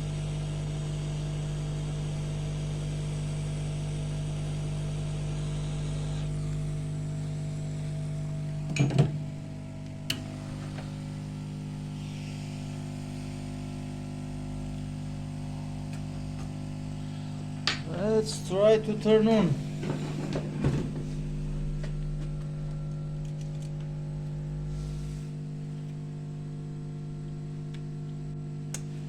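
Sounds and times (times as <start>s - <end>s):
electric motor hum: 0.0s - 29.0s.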